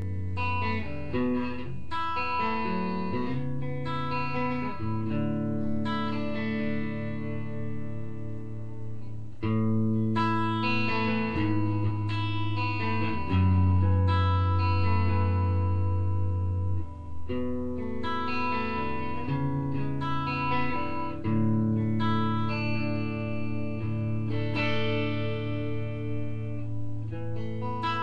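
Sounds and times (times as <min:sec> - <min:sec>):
guitar playing: 0:00.0 - 0:28.0.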